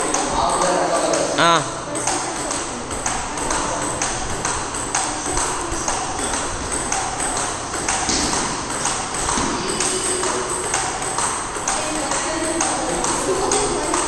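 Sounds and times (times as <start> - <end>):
table tennis balls hitting bats: 0.0 - 14.0.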